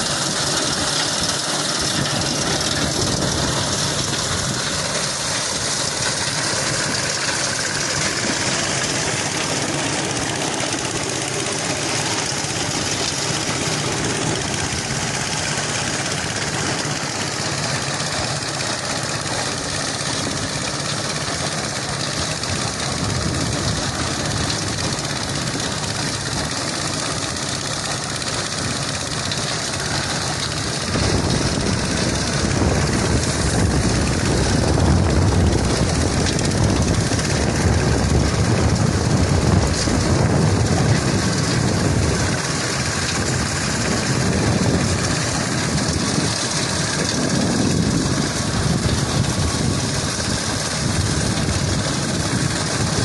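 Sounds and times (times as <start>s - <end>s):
deep loud rumble: 0.0s - 53.0s
engine running: 0.0s - 53.0s.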